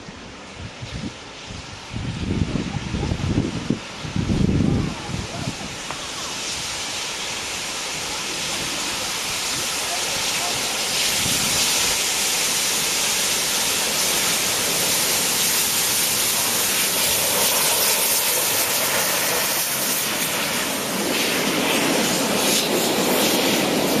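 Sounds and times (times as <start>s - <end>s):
steam hissing: 0.0s - 24.0s
train running on rails: 0.0s - 24.0s.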